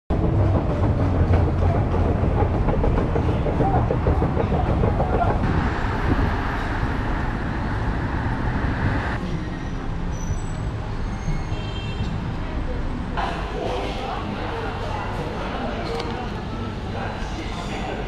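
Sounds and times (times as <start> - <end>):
train rumbling on rails: 0.1 - 18.0.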